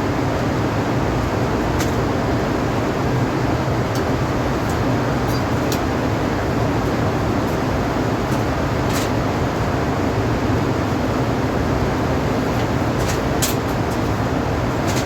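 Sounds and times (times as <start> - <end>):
air-conditioning units droning: 0.0 - 15.0.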